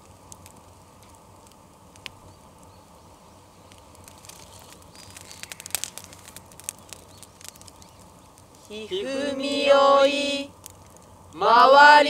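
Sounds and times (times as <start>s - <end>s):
sharp pops of fire: 0.0s - 8.8s, 10.5s - 11.4s
bonfire crackling: 0.0s - 12.0s.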